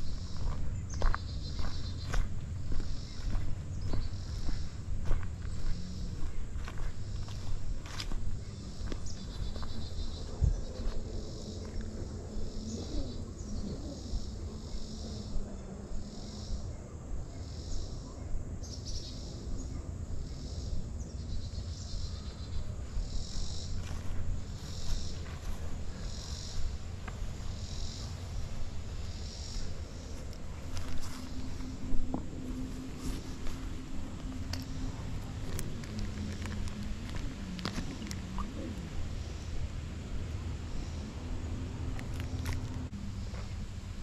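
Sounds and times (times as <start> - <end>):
insects buzzing: 0.0 - 44.0.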